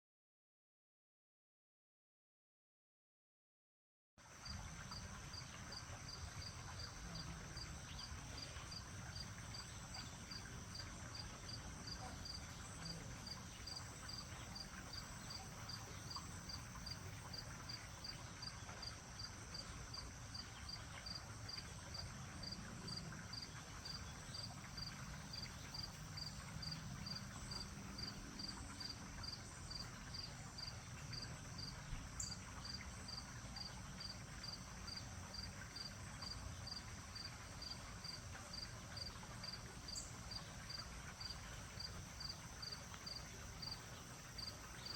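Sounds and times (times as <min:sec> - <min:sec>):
crickets chirping: 0:04.3 - 0:44.9.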